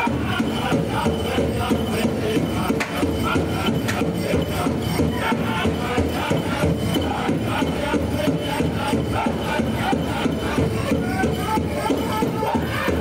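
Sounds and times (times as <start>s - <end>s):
singers singing: 0.0s - 13.0s.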